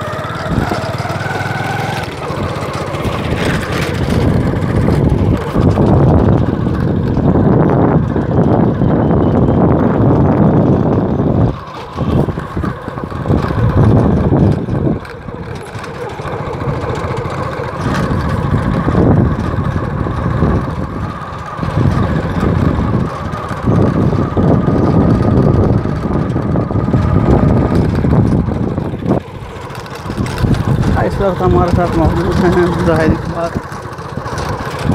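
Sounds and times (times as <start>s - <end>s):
vehicle engine running: 0.0s - 34.9s
wind rumbling on microphone: 0.0s - 34.9s.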